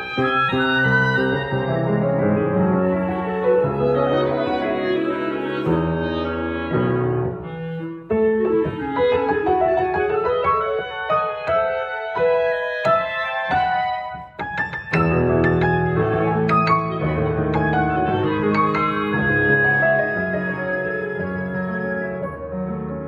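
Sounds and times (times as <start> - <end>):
flute oboe and clarinet chords: 0.0 - 14.3, 15.6 - 23.0
piano notes: 0.0 - 23.0.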